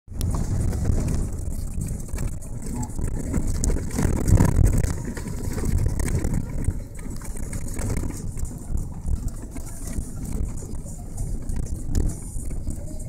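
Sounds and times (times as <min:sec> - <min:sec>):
vehicle engine and road rumble: 0:00.1 - 0:13.0.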